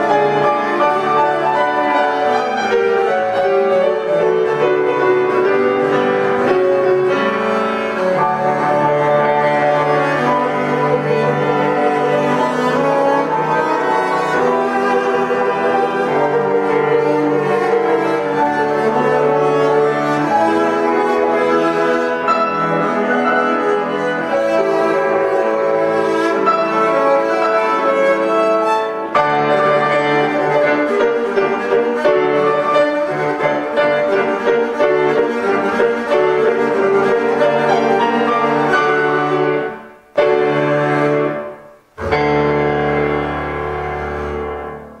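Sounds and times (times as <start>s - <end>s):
bowed double bass: 0.0s - 45.0s
grand piano: 0.0s - 45.0s.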